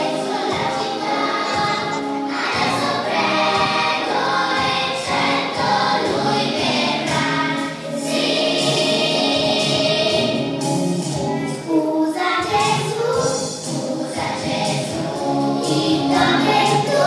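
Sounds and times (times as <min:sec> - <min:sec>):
children singing: 0:00.0 - 0:17.0
musical accompaniment: 0:00.0 - 0:17.0.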